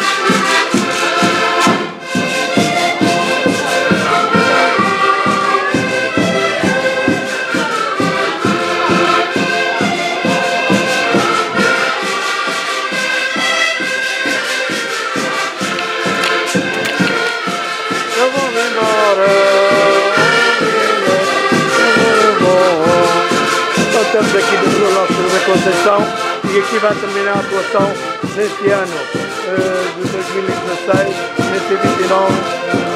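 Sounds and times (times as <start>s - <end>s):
accordion band playing folk tune: 0.0s - 32.9s.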